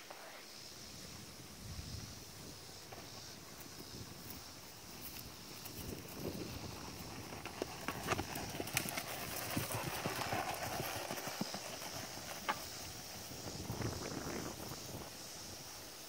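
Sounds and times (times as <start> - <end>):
horse hoofbeats on grass and dirt: 2.8 - 15.7.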